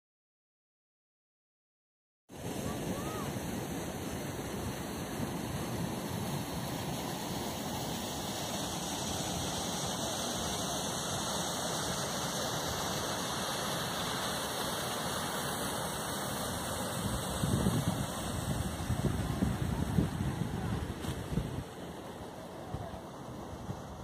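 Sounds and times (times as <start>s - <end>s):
water rushing through channel: 2.4s - 24.0s.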